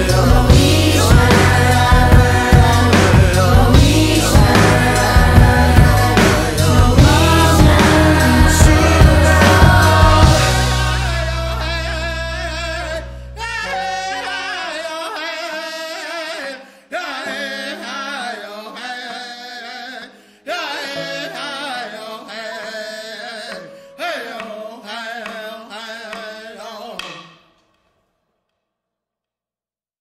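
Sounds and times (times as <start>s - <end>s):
music with singing voice: 0.0s - 27.5s.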